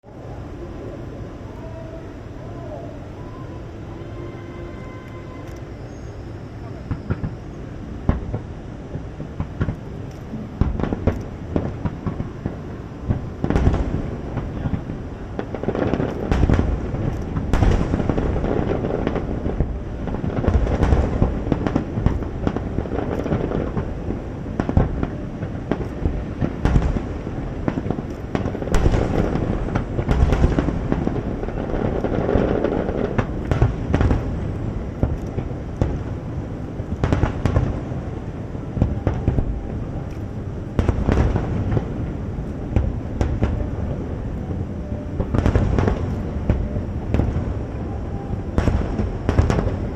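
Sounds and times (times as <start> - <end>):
fireworks booming and banging: 1.4 - 49.9.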